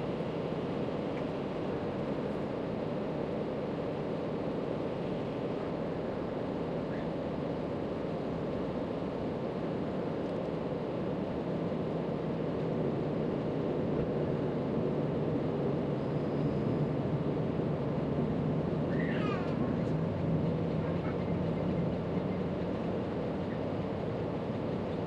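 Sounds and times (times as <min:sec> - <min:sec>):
steady background rumble: 0:00.0 - 0:25.0.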